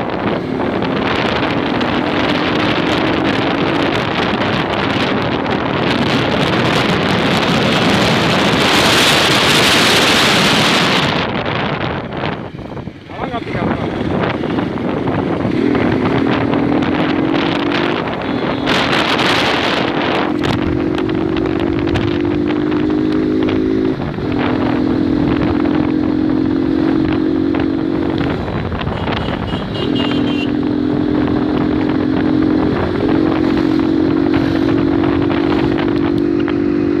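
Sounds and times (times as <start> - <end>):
motorcycle engine running: 0.0 - 37.0
wind noise on microphone: 0.0 - 37.0.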